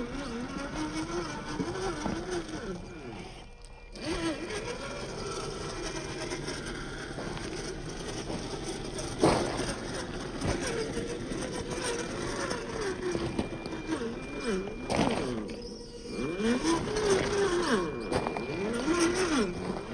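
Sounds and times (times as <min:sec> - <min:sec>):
toy car electric motor whining: 0:00.0 - 0:19.9.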